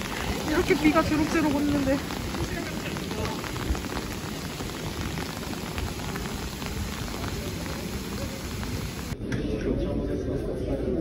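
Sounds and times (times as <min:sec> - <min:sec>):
rain on paving stones: 0:00.0 - 0:09.2.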